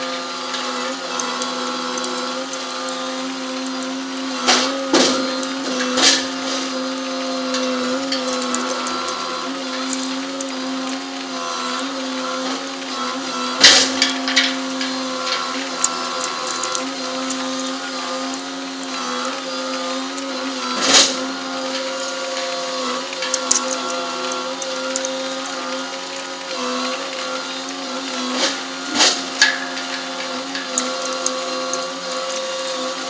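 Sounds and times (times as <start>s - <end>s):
crane machinery whine: 0.0s - 33.0s
metal clanks: 0.0s - 33.0s.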